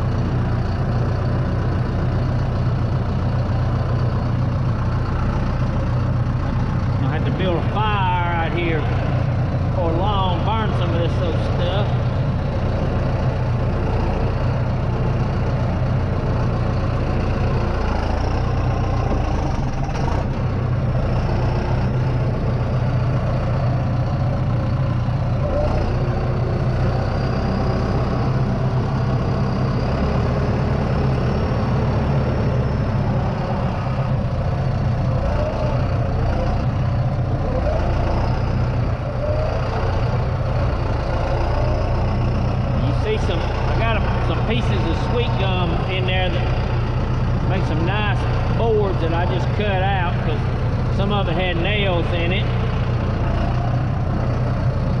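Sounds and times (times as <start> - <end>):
heavy engine droning: 0.0 - 55.0.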